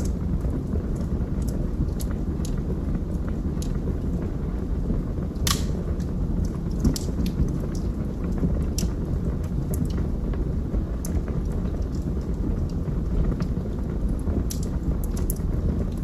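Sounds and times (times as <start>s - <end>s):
fire crackles and pops: 0.0s - 16.0s
wood fire roaring: 0.0s - 16.0s.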